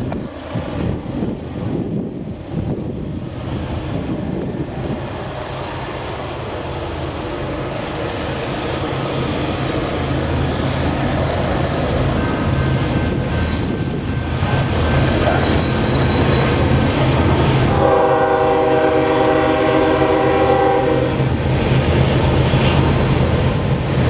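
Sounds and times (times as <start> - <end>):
locomotive engine drone: 0.0 - 24.0.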